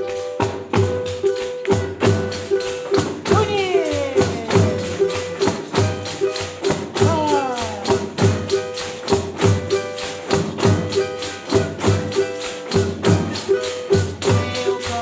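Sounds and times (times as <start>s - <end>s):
frame drums with jingles: 0.0s - 15.0s.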